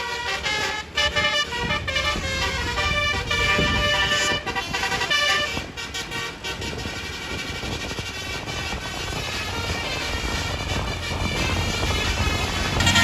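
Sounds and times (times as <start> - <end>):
multi-tone bus horn tune: 0.0 - 13.0.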